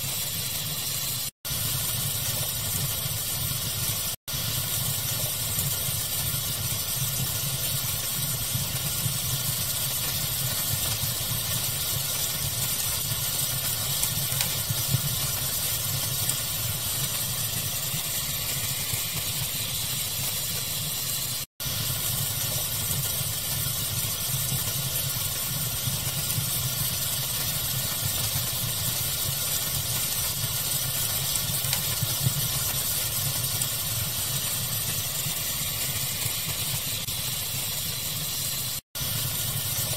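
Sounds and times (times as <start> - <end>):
fire crackling and popping: 0.0 - 39.9
steady hiss: 0.0 - 39.9.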